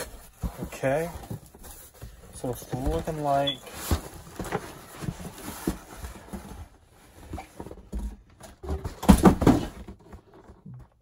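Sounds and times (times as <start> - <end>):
cardboard scraping and knocking: 0.0 - 11.0.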